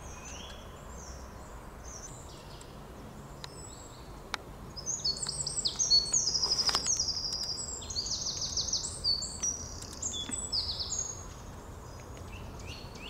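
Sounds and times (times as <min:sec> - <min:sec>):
songbirds singing and chirping: 0:00.0 - 0:13.0.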